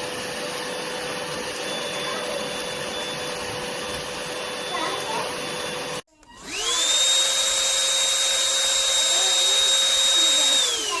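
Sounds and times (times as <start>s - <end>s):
vacuum motor whine: 0.0s - 11.0s.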